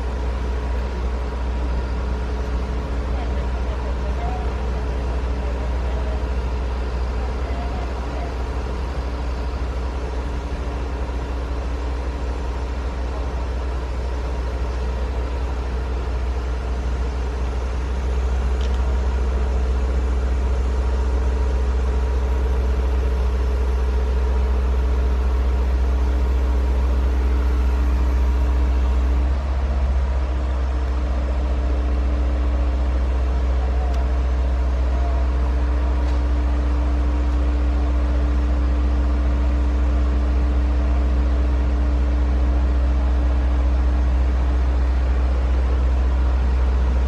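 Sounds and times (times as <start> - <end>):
diesel engine rumbling: 0.0 - 47.0
steady hum: 0.0 - 47.0.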